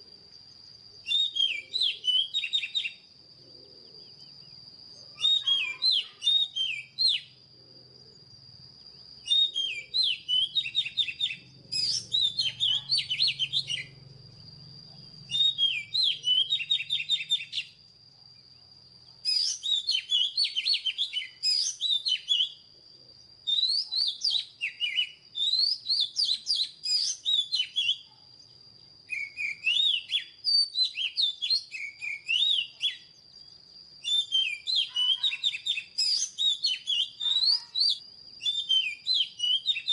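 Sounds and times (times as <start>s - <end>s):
bird singing whistled notes: 0.0s - 7.5s, 8.2s - 39.9s.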